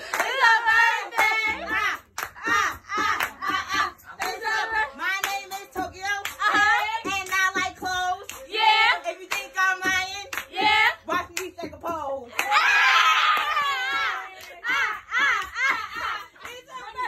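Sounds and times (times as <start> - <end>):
hands clapping: 0.0 - 4.6, 5.2 - 8.6, 9.2 - 11.7, 12.4 - 17.0
people singing: 0.0 - 17.0.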